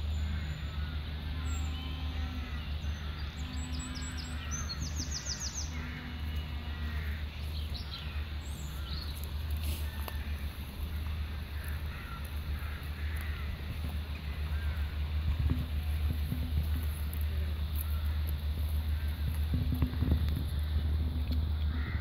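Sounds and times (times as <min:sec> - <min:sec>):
low rumble: 0:00.0 - 0:22.0
songbirds chirping: 0:00.0 - 0:22.0.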